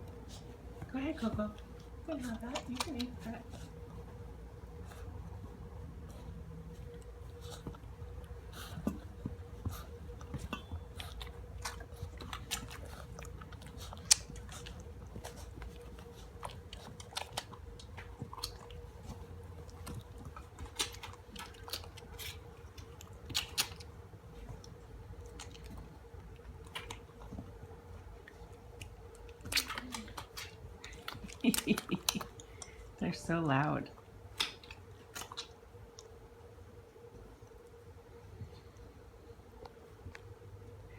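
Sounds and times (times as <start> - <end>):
puppies crunching dry kibble: 0.0 - 36.2.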